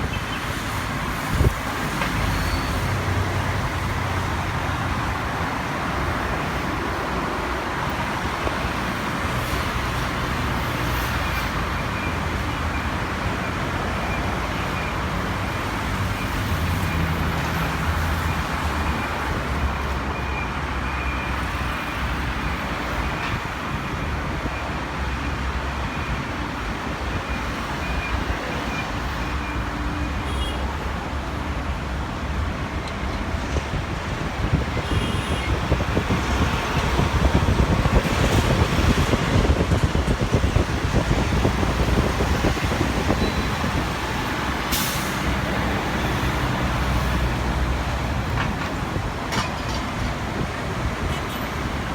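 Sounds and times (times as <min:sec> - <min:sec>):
traffic noise: 0:00.0 - 0:51.9.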